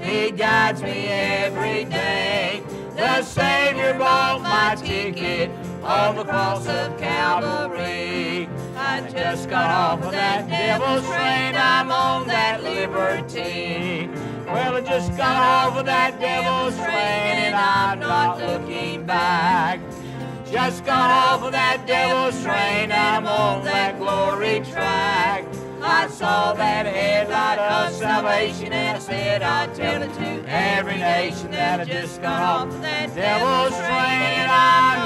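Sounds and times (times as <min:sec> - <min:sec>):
instrumental accompaniment: 0:00.0 - 0:35.0
person singing with vibrato: 0:00.0 - 0:35.0.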